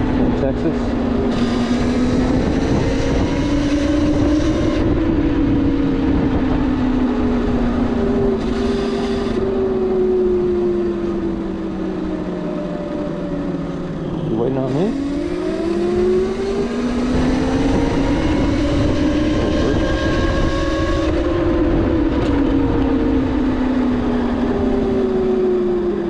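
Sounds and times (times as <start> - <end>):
wind and road noise: 0.0 - 26.0
electric motor whining: 0.8 - 26.0.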